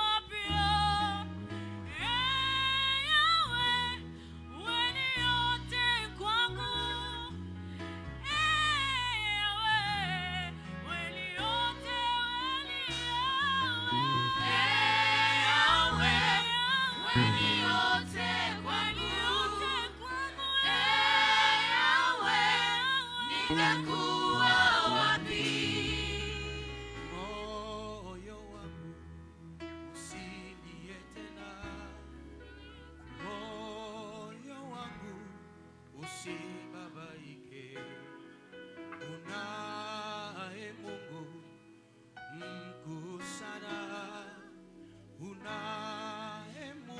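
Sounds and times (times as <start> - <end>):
gospel singers with instrumental backing: 0.0 - 46.9.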